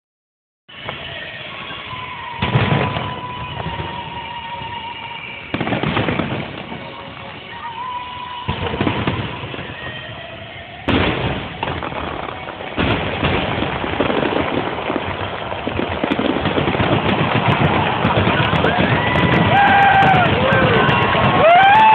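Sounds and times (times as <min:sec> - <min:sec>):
fireworks barrage of bursts: 0:00.7 - 0:21.9
fireworks booming: 0:00.7 - 0:21.9.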